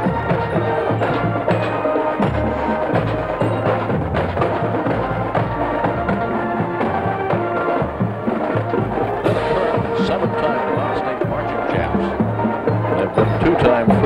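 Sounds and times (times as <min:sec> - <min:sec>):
bass drum strokes: 0:00.0 - 0:14.0
marching band playing: 0:00.0 - 0:14.0.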